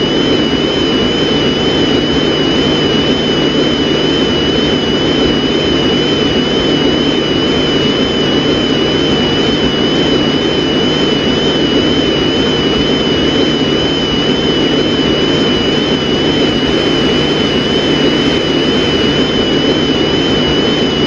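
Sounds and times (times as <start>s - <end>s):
high wavering whines: 0.0s - 21.0s
low hum: 0.0s - 21.0s.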